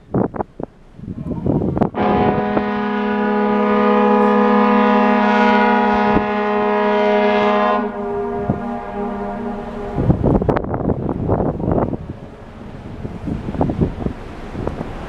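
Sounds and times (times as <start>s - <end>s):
ship horn blast: 1.4s - 13.6s.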